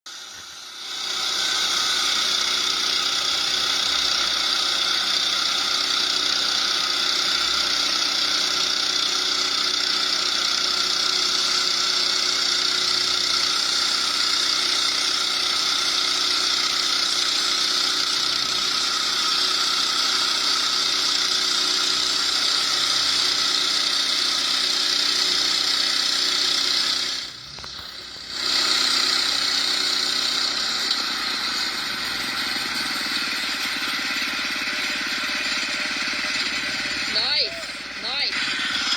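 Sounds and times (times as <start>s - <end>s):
sawmill blade whining: 0.1s - 38.9s.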